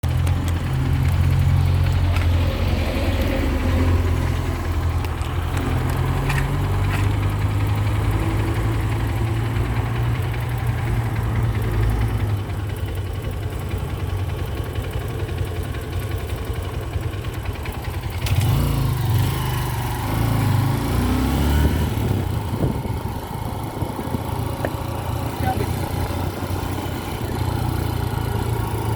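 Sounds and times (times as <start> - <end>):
vehicle engine low rumble: 0.0 - 28.9.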